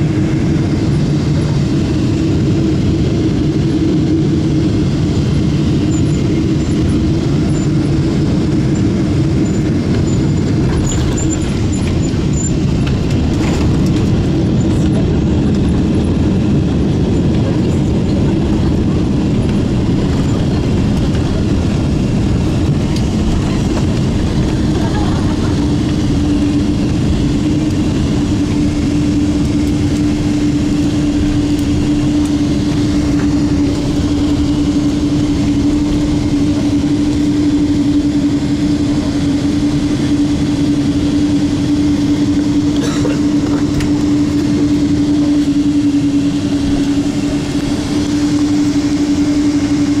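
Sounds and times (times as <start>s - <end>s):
jet engines idling: 0.0s - 50.0s.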